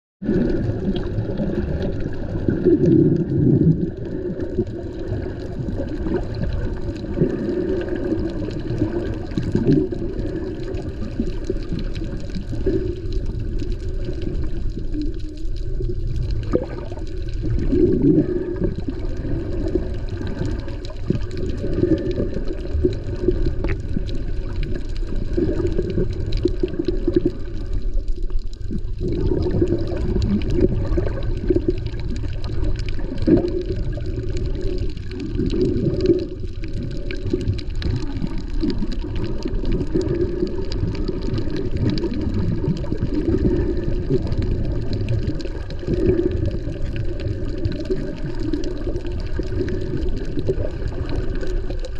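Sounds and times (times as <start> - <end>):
water sloshing and gurgling: 0.2 - 51.9.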